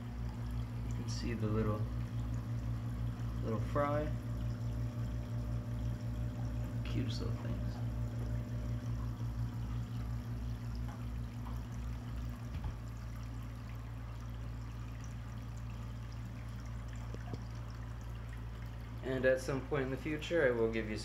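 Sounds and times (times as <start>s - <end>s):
aerator low hum: 0.0s - 21.0s
water bubbling and trickling: 0.0s - 21.0s.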